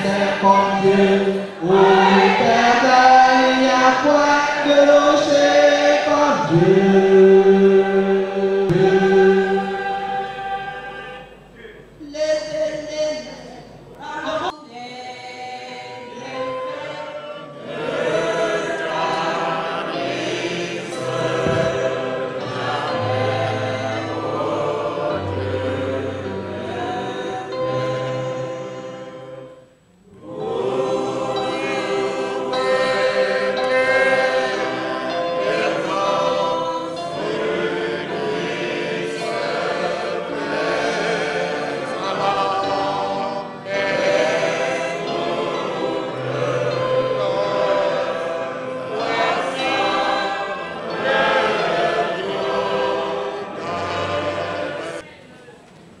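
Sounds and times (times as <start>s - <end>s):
choir singing a hymn: 0.0s - 12.0s, 14.0s - 55.4s.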